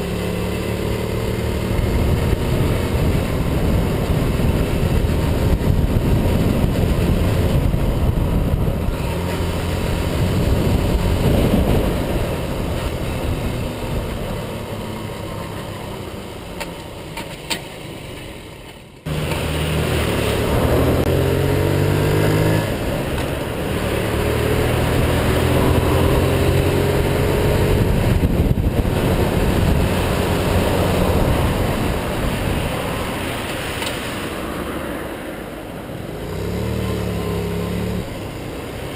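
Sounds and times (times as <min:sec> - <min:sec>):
small motorcycle engine revving: 0:00.0 - 0:16.0, 0:19.1 - 0:33.0, 0:36.1 - 0:38.9.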